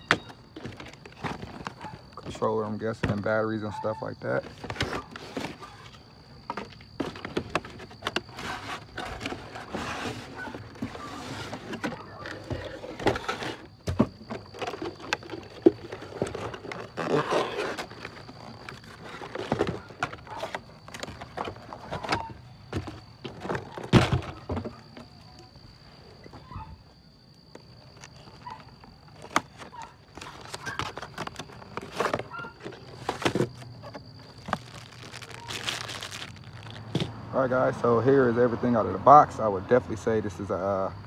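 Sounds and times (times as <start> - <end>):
cardboard rustling and scraping: 0.0 - 3.2, 4.2 - 25.1, 27.9 - 37.1.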